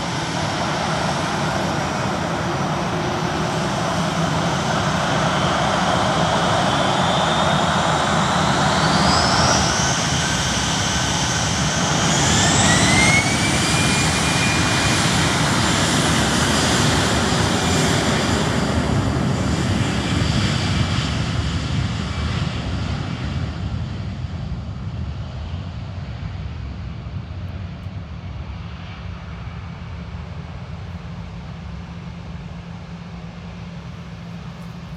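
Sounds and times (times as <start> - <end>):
jet engines whining: 0.0 - 24.3, 27.2 - 34.9
jet rumble: 0.0 - 34.9.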